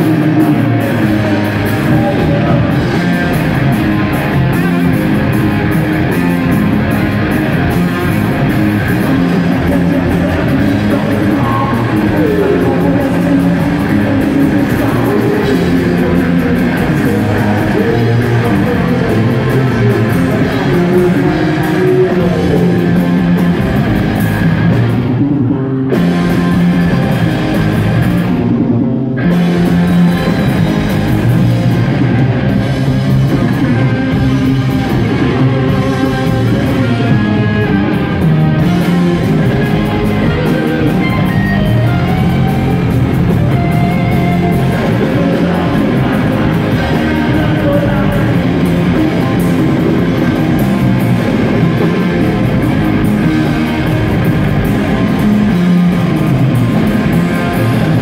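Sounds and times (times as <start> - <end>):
punk rock band playing live: 0.0 - 58.0.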